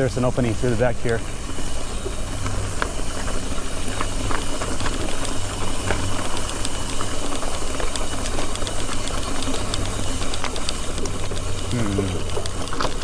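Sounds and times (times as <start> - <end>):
bike clicks and rattles: 0.0 - 13.0.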